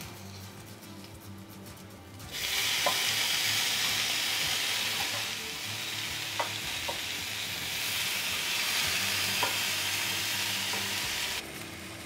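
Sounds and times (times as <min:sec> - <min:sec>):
patties sizzling on grill: 0:02.2 - 0:12.0.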